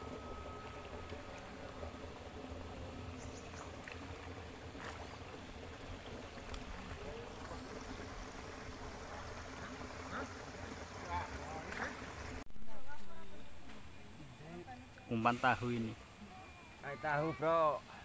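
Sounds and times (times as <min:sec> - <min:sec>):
low outdoor rumble: 0:00.0 - 0:14.8.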